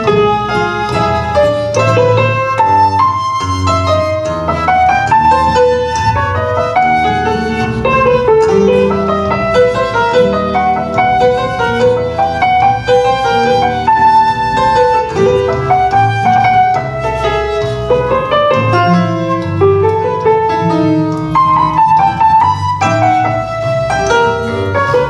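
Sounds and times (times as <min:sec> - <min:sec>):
baroque ensemble music: 0:00.0 - 0:25.0.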